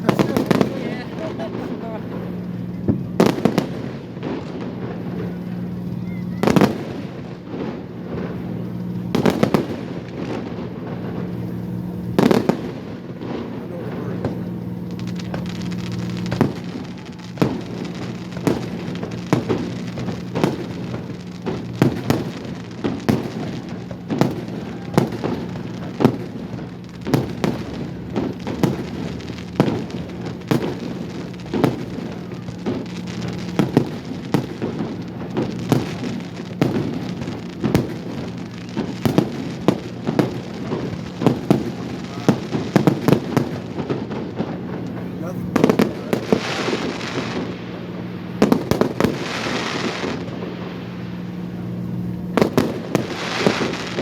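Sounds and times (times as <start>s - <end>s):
fireworks booming: 0.0s - 54.0s
fireworks crackling pops: 0.0s - 54.0s
steady low hum: 0.0s - 54.0s.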